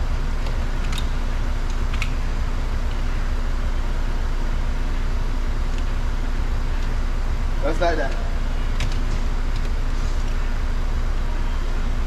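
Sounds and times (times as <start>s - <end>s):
body shop background hum and hiss: 0.0s - 12.0s.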